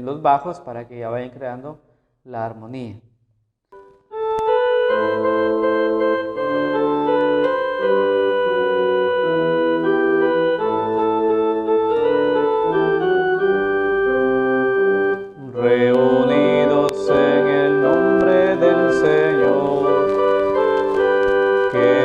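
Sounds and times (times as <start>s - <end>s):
electronic keyboard organ chords: 3.8s - 22.0s.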